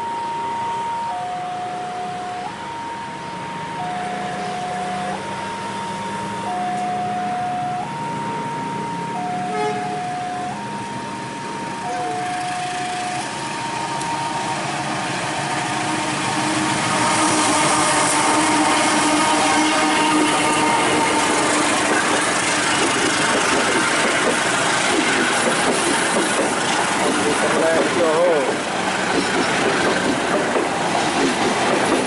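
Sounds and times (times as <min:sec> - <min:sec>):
two-tone warning alarm: 0:00.0 - 0:32.0
train rushing noise: 0:02.0 - 0:32.0.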